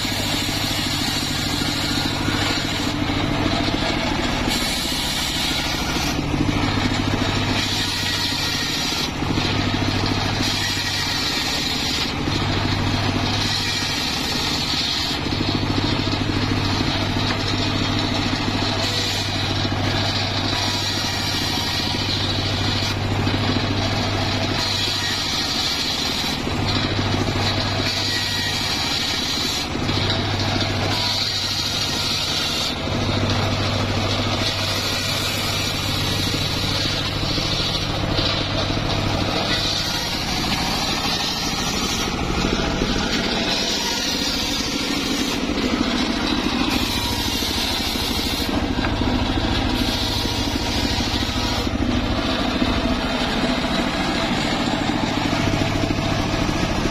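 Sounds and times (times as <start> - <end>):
circular saw cutting wood: 0.0 - 56.9
engine running: 0.0 - 56.9.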